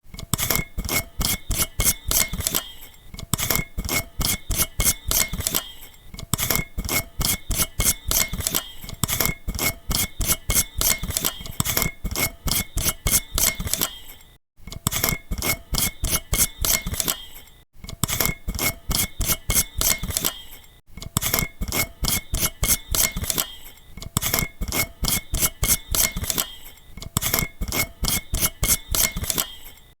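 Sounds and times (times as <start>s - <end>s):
light bulb screw base clicking: 0.1s - 29.9s.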